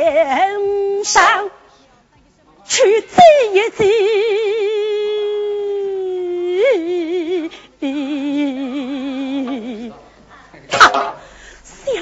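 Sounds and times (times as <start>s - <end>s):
woman singing with vibrato: 0.0s - 1.7s, 2.7s - 10.0s, 10.8s - 12.0s.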